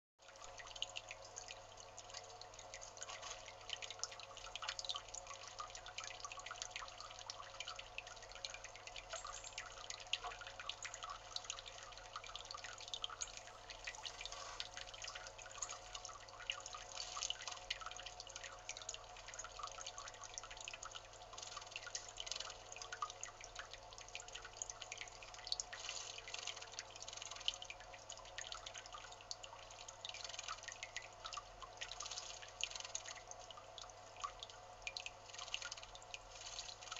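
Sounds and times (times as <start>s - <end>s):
water dripping into bird bath: 0.2s - 36.9s.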